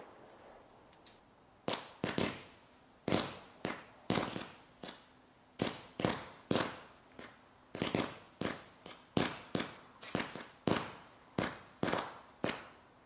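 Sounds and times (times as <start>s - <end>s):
fireworks popping with hissing tails: 0.0s - 12.8s.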